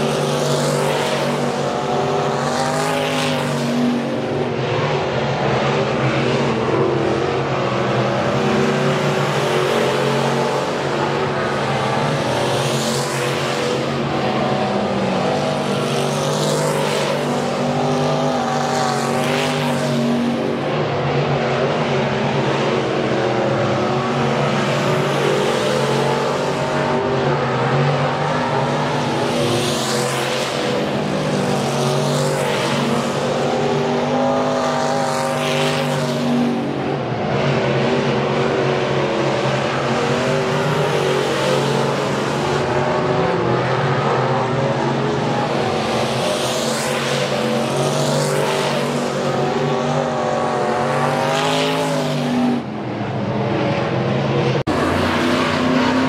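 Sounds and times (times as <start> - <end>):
race car engine passing: 0.0 - 56.0.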